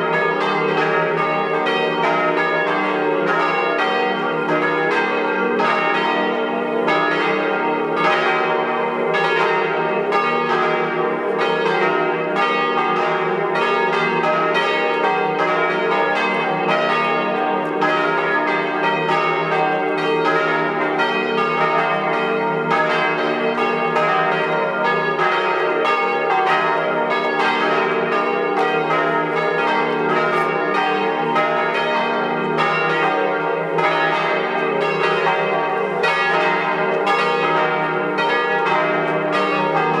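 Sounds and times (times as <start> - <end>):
church bells pealing: 0.0 - 40.0.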